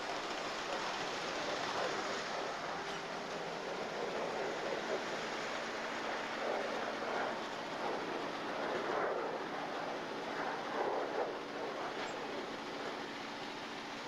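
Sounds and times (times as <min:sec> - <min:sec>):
faint engine hum: 0:00.0 - 0:14.0.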